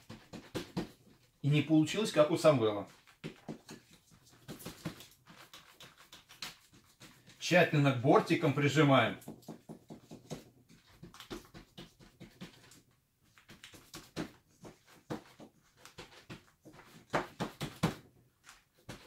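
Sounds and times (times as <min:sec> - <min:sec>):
hands patting dough in pan: 0:00.0 - 0:19.0.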